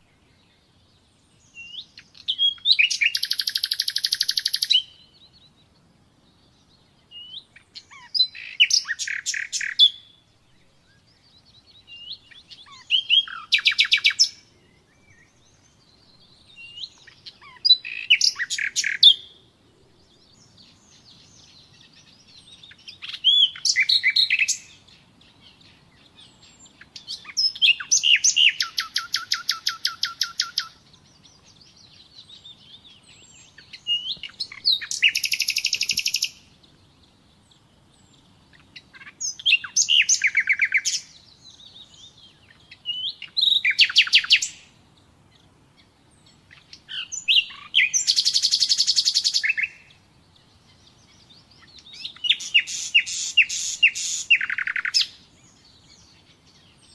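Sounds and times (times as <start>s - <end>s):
nightingale singing: 0.0s - 56.9s.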